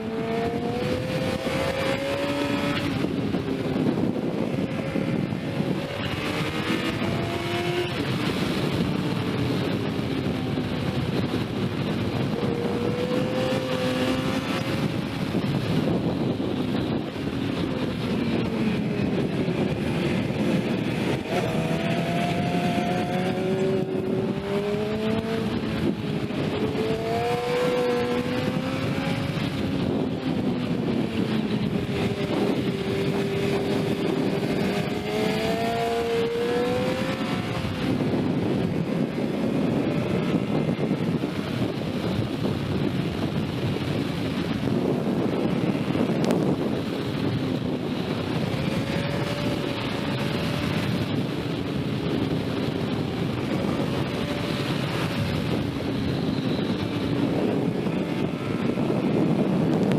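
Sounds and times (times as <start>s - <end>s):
motorcycle engine revving: 0.0s - 59.9s
wind on microphone: 0.0s - 59.9s.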